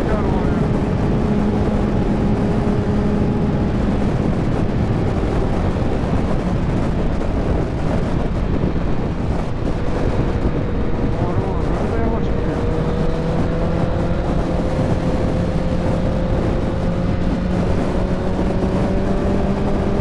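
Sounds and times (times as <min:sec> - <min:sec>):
motorcycle engine running steadily: 0:00.0 - 0:20.0
wind noise on microphone: 0:00.0 - 0:20.0.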